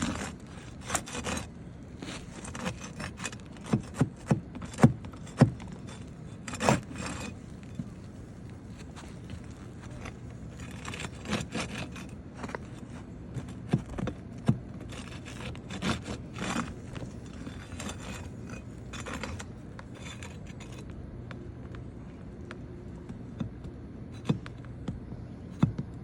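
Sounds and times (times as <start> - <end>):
hand tools scraping roof shingles: 0.0 - 20.9.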